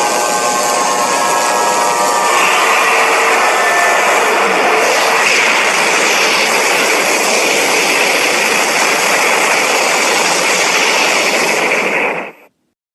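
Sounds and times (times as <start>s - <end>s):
loud rushing hiss: 0.0s - 12.5s.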